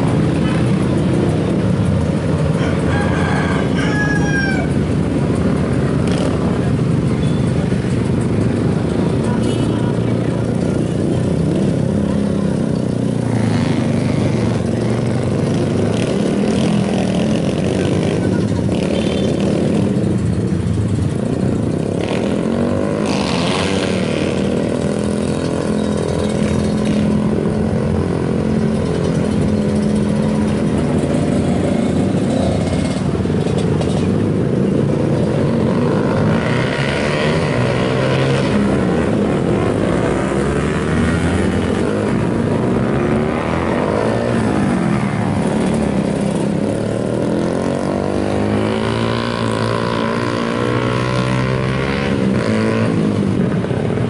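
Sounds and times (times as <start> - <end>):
motorcycle engine at low revs: 0.0 - 3.8, 4.7 - 54.0.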